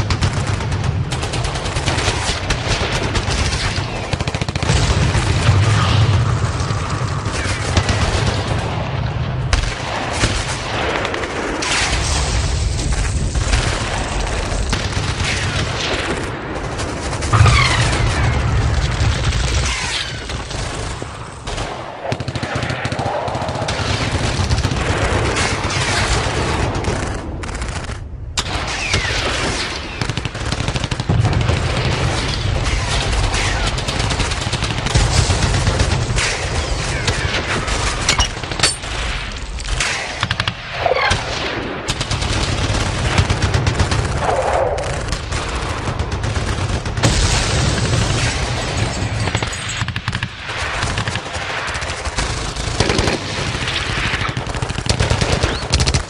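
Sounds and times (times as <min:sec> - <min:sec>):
machine-gun and rifle fire: 0:00.0 - 0:56.0.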